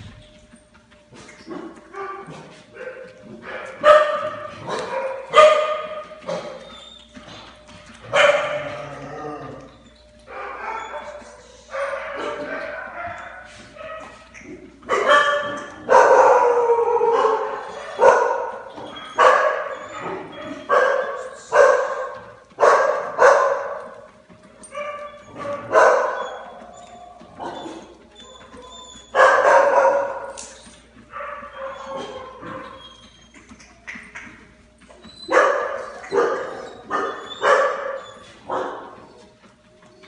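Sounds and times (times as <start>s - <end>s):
puppies yelping and crying: 1.0s - 40.0s.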